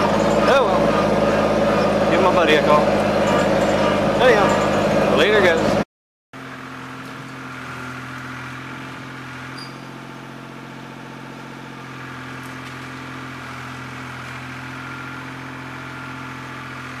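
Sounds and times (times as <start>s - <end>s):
tractor diesel engine running: 0.0s - 5.8s, 6.4s - 17.0s.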